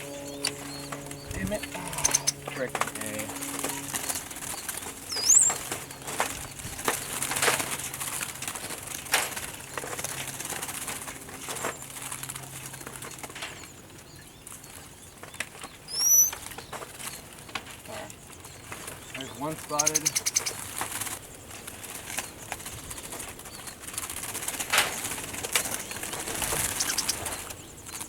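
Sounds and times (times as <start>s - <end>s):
birds flapping wings: 0.0s - 28.0s.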